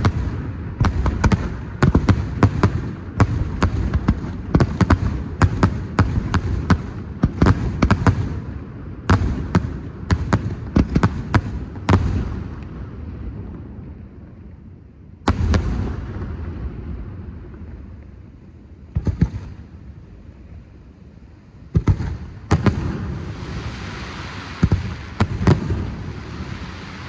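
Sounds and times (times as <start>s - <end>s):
fireworks bursting: 0.0s - 13.8s, 15.2s - 20.6s, 21.6s - 27.0s
crackling hiss: 0.0s - 27.0s.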